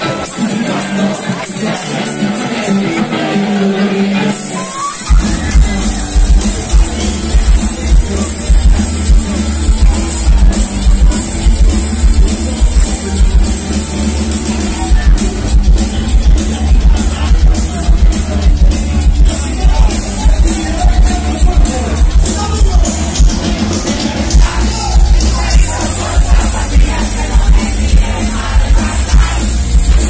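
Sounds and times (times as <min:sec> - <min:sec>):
drums and heavy bass beat: 0:00.0 - 0:30.0
live dance band music: 0:00.0 - 0:30.0
person singing: 0:00.0 - 0:30.0.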